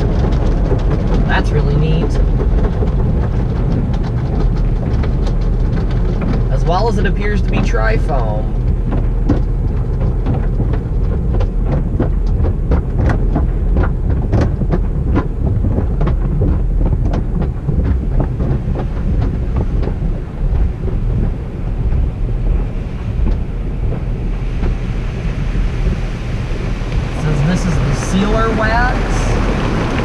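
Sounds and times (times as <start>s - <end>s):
car wash low rumble: 0.0s - 30.0s.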